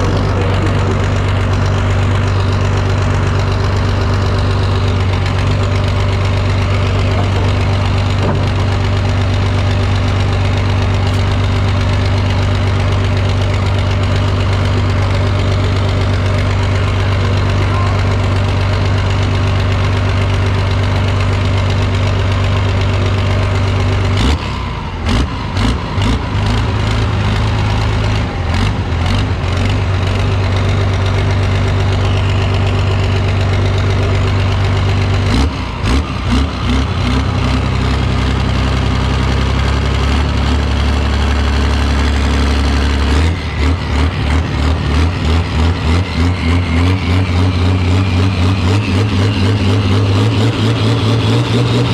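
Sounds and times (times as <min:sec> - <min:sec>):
vehicle engine running: 0:00.0 - 0:51.9.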